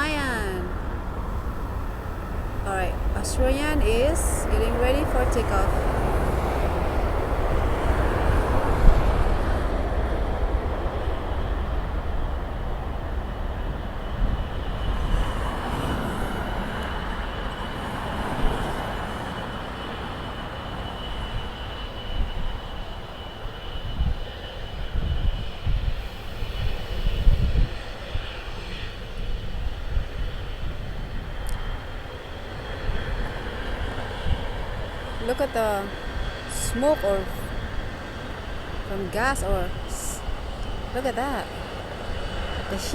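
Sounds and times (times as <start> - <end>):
high engine whine: 0.0 - 42.9
jet airliner engines rushing: 0.0 - 42.9
wind rumble on microphone: 0.0 - 42.9.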